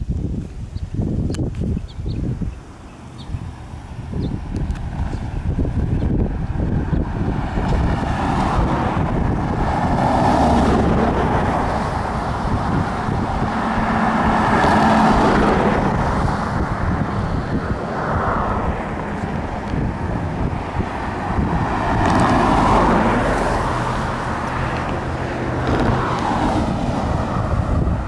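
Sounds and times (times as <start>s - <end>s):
wind rumbling on microphone: 0.0s - 28.0s
cars passing: 1.9s - 28.0s.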